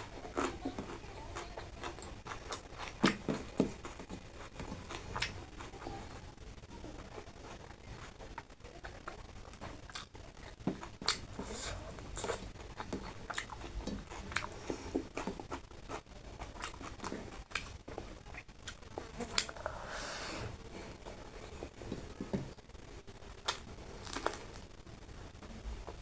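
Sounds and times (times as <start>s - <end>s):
person chewing food: 0.0s - 6.2s, 7.8s - 22.6s, 23.3s - 24.7s.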